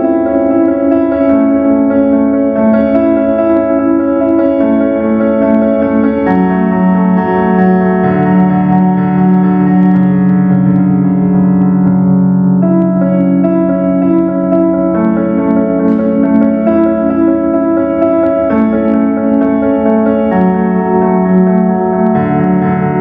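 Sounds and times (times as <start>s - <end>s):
electric keyboard chords: 0.0s - 23.0s.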